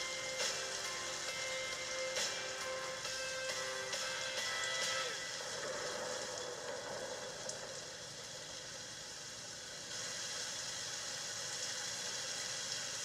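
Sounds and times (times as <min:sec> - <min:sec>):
rain hissing: 0:00.0 - 0:13.0.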